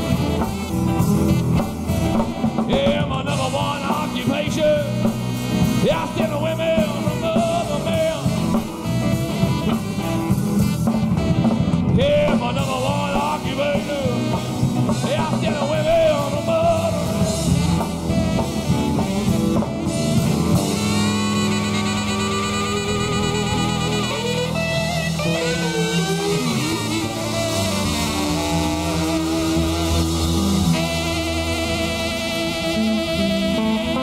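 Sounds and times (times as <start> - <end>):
blues-rock band playing: 0.0 - 34.0.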